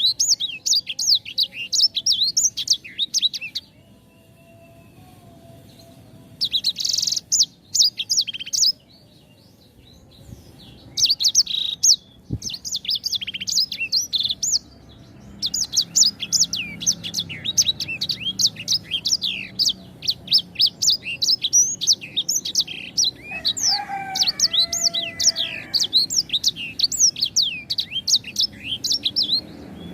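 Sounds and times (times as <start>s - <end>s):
songbird chirping and trilling: 0.0s - 29.9s.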